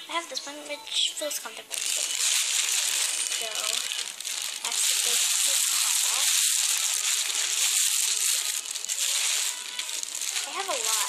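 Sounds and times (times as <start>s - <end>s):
plastic bag crinkling: 1.5s - 11.0s.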